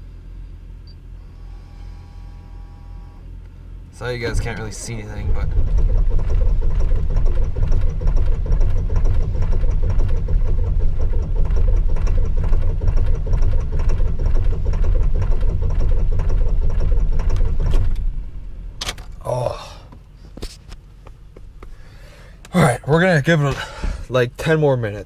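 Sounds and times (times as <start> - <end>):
diesel engine cranking: 1.2 - 25.0.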